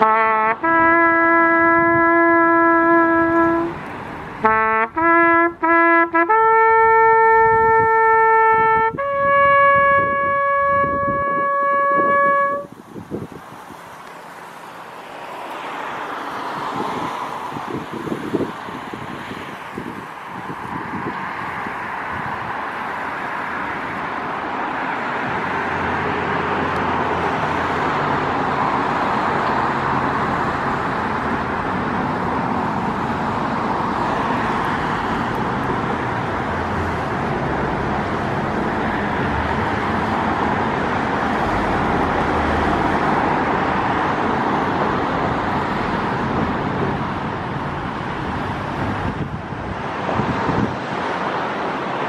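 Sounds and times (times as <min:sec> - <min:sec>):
road traffic noise: 0:00.0 - 0:52.0.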